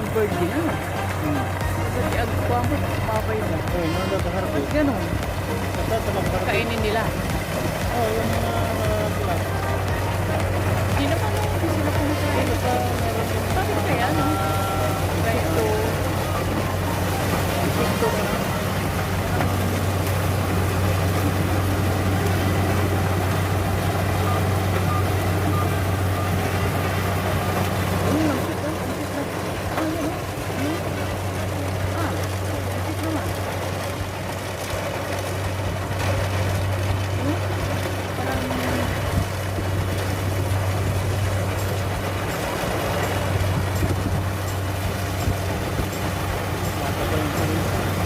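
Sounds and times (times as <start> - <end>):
harvester engine humming: 0.0 - 48.0.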